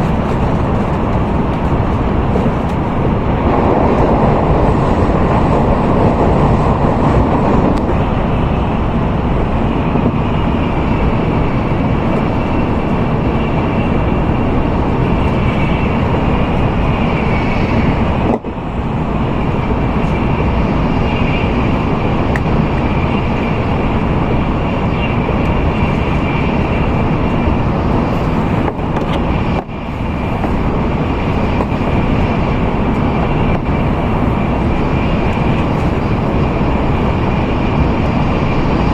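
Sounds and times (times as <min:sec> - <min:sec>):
faint high whine: 0:00.0 - 0:38.9
train running at speed: 0:00.0 - 0:38.9.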